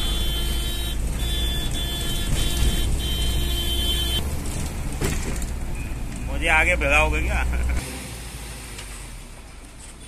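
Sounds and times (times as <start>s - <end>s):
diesel bus engine and road noise: 0.0s - 10.0s.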